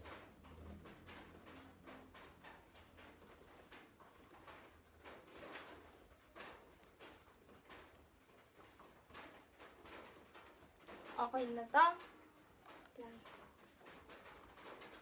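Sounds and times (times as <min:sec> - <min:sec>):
faint irregular clicks: 0:00.0 - 0:15.0.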